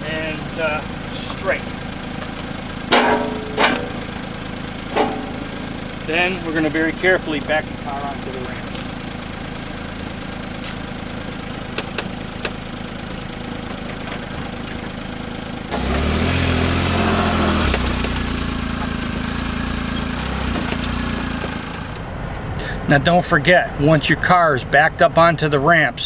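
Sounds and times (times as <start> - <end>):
car engine idling: 0.0 - 24.4
car engine under load: 0.0 - 25.8.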